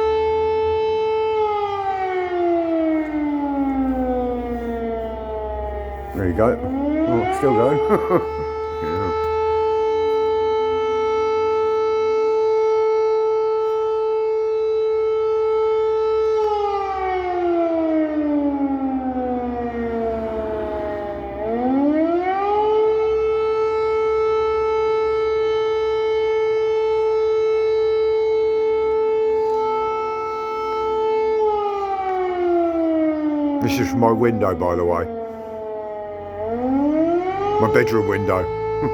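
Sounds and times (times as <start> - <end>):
air raid siren wailing: 0.0 - 38.9.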